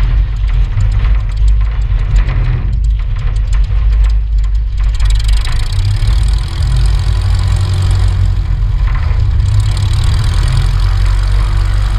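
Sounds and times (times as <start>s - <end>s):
light aircraft engine running: 0.0s - 11.9s
wheel rumbling over grass: 0.0s - 11.9s.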